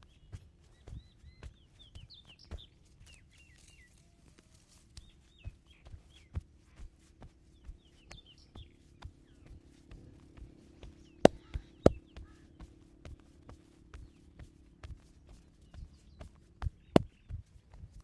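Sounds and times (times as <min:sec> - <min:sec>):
small birds chirping: 0:00.0 - 0:06.8, 0:07.4 - 0:17.4.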